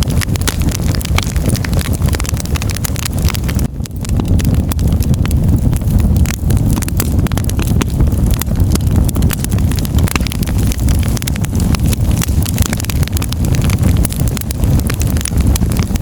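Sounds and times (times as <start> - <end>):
fire flames roaring: 0.0 - 16.0
logs crackling and popping: 0.0 - 16.0.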